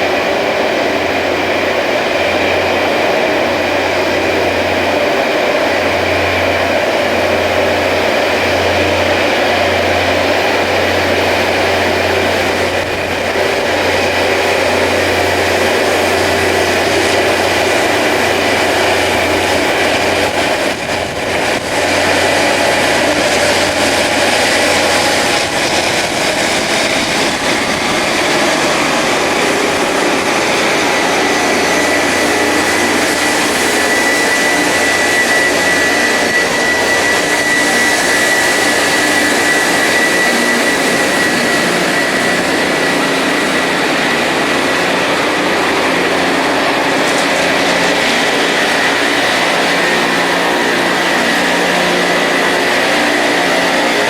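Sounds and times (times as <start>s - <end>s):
engine noise: 0.0s - 54.0s
grinding wheels on steel rail: 0.0s - 54.0s
high whine: 0.0s - 54.0s.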